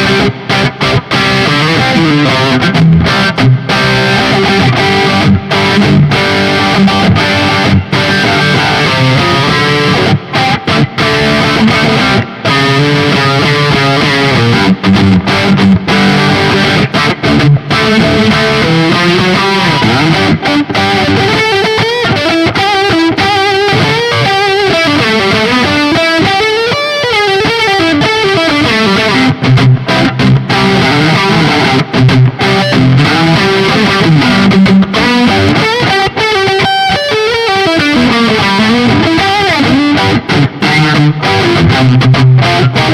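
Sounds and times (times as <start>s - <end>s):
distorted electric guitar chords: 0.0s - 42.9s
guitar lead single notes: 0.0s - 42.9s.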